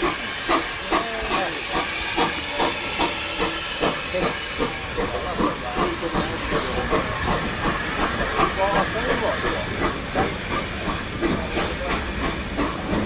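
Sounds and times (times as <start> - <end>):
continuous steam hiss: 0.0 - 13.0
steam locomotive chuffing: 0.0 - 13.0.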